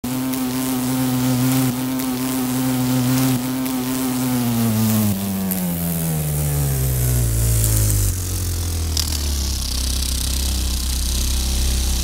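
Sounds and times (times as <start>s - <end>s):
bee buzzing: 0.0s - 12.0s.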